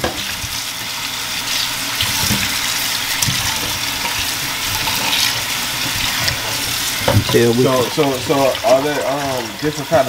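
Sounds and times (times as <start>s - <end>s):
faucet running into a metal pot: 0.0s - 10.0s.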